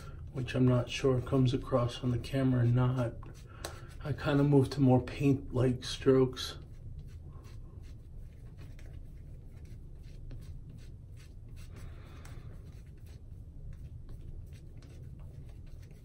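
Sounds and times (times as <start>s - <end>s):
steady low hum: 0.0s - 16.0s
shaving brush strokes on skin: 0.4s - 5.2s, 5.8s - 16.0s.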